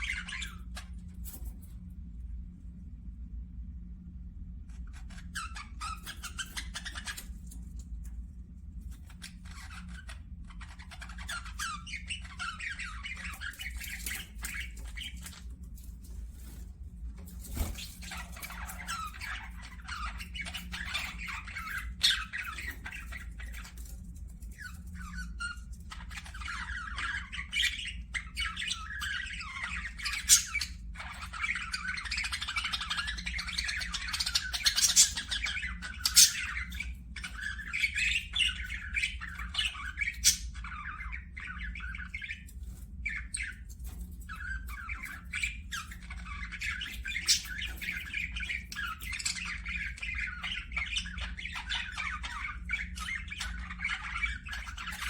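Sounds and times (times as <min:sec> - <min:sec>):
budgerigars chattering and squawking: 0:00.0 - 0:01.4, 0:04.7 - 0:07.8, 0:08.9 - 0:16.6, 0:17.3 - 0:55.0
faint low hum: 0:00.0 - 0:55.0.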